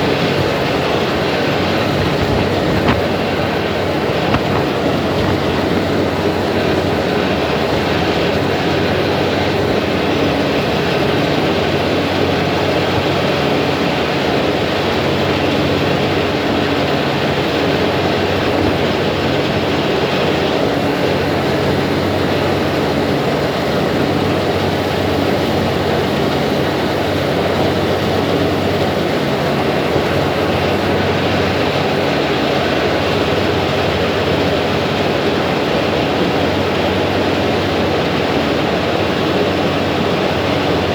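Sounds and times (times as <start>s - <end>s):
boat engine drone: 0.0s - 40.9s
rushing water: 0.0s - 40.9s
wind: 0.0s - 40.9s.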